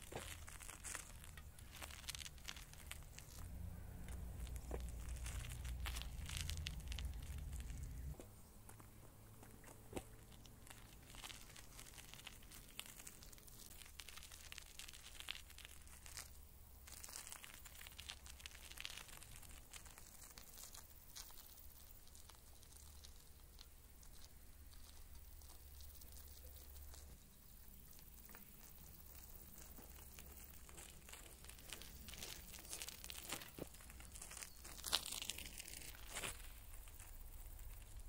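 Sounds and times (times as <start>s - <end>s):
light crackles and rustling: 0.0s - 38.0s.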